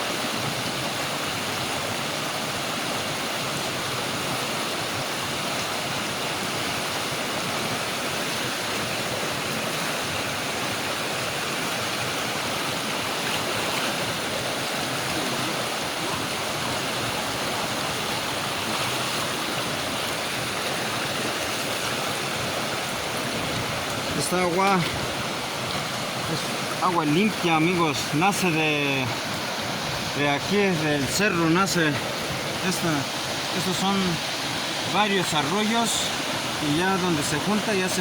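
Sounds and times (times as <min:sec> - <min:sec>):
river water rushing over stones: 0:00.0 - 0:38.0.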